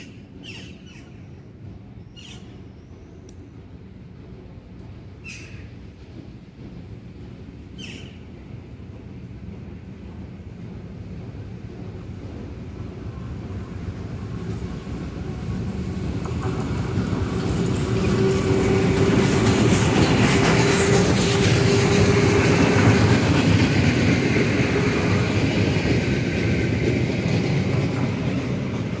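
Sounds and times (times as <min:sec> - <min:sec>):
train wheels clicking over rail joints: 0:00.0 - 0:29.0.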